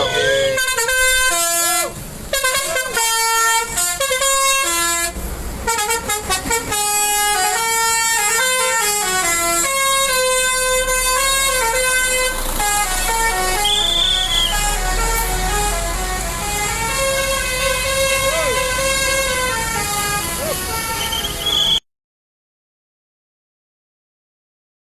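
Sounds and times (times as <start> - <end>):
low engine rumble: 0.0 - 21.8
musical air horn playing tune: 0.0 - 21.8.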